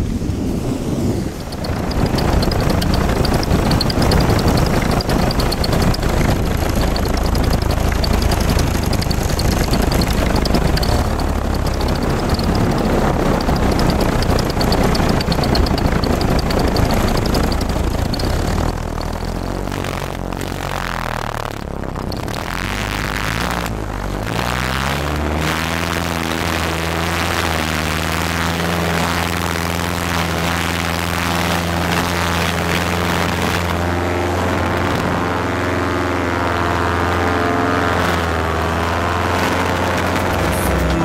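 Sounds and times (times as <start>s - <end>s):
water noise: 0.0s - 41.0s
wind: 0.0s - 41.0s
small engine running: 0.2s - 41.0s.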